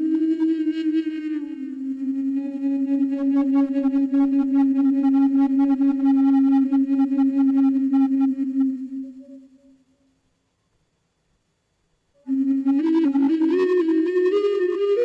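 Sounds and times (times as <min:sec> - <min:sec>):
wavering flute note: 0:00.0 - 0:10.0, 0:12.2 - 0:15.0.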